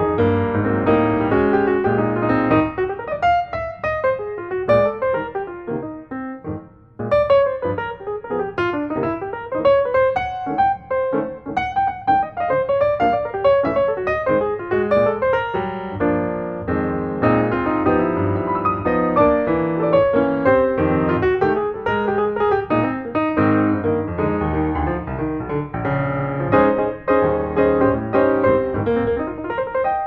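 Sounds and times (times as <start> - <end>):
solo piano music: 0.0 - 30.0.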